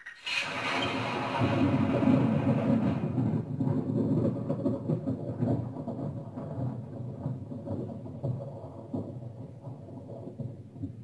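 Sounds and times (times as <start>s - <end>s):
thunder rumble from television: 0.2s - 11.0s.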